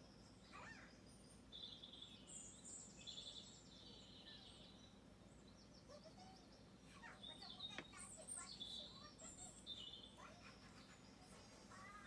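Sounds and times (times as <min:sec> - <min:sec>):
faint bird chirps and trills: 0:00.0 - 0:12.0.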